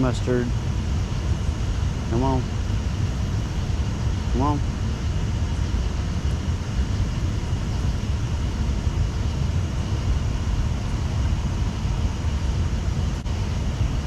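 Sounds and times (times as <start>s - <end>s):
even hiss: 0.0s - 14.0s
steady low rumble: 0.0s - 14.0s.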